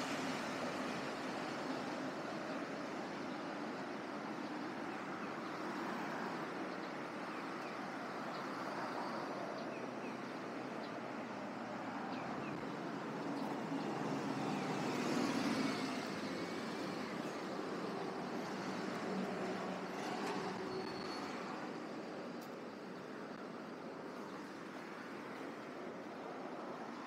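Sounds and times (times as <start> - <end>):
busy road traffic: 0.0 - 27.0.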